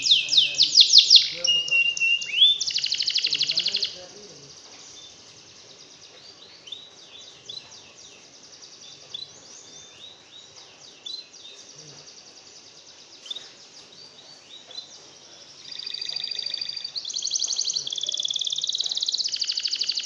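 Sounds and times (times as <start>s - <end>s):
background hiss: 0.0s - 20.0s
songbird chirping: 0.0s - 20.0s.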